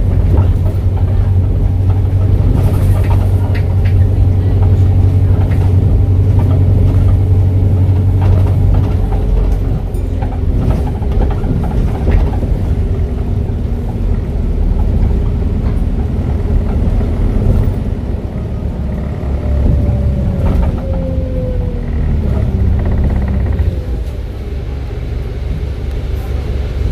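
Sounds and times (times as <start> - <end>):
bus engine droning: 0.0 - 26.9.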